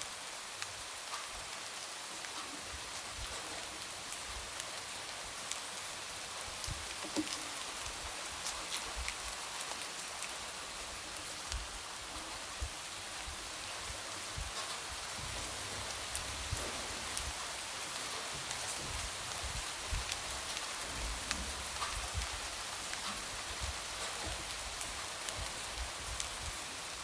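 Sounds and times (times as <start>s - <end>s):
light rain: 0.0s - 27.0s.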